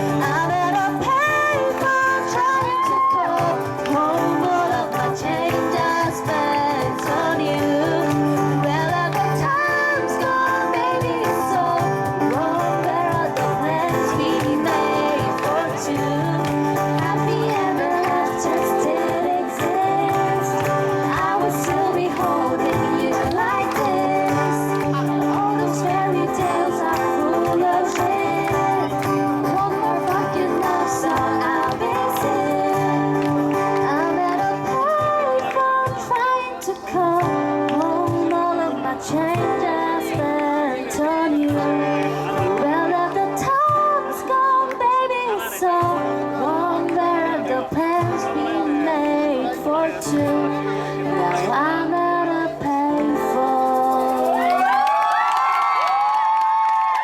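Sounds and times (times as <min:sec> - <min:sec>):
pop song with singer: 0:00.0 - 0:57.0.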